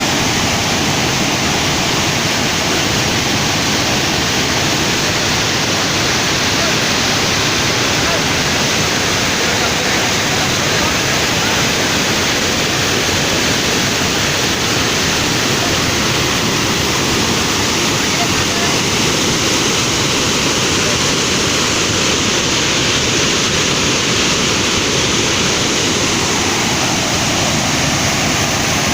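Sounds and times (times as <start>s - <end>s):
water rushing through spillway: 0.0s - 28.9s.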